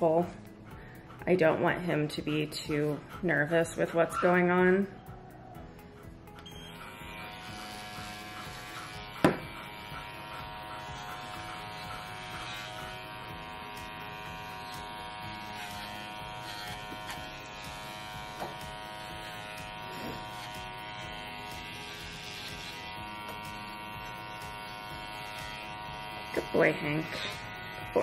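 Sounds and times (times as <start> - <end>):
pet hair clippers buzzing: 0.0 - 5.0, 5.9 - 28.0.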